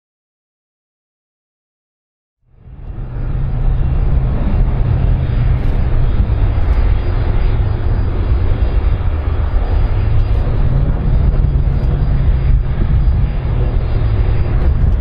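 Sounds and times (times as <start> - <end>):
jet engines running: 2.5 - 15.0.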